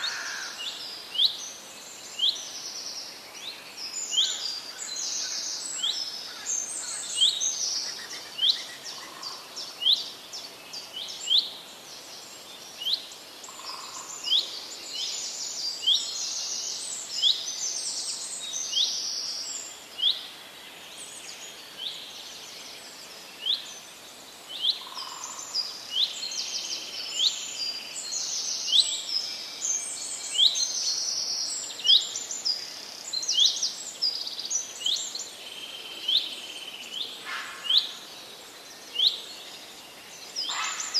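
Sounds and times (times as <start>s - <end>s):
birds chirping chorus: 0.0s - 40.9s.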